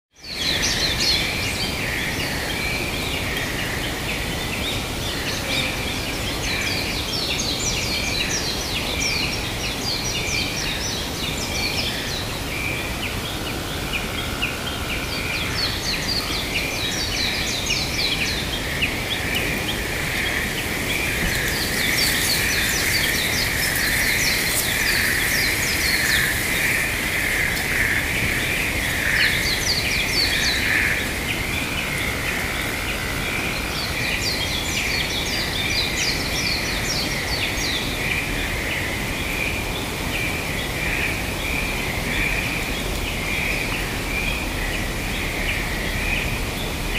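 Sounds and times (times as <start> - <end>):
birds chirping and twittering: 0.2 - 46.9
steady background noise: 0.3 - 46.9.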